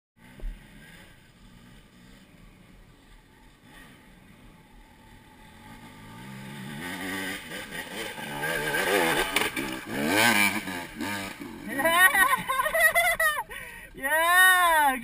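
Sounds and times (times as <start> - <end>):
dirt bike engine revving: 0.2 - 13.3.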